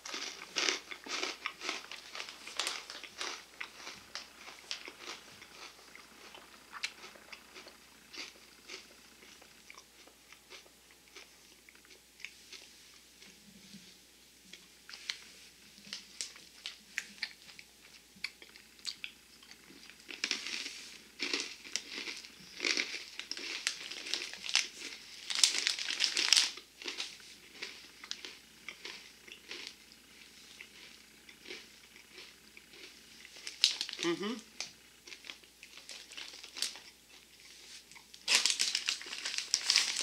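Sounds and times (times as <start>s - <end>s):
crunchy pretzels being chewed: 0.0s - 40.0s.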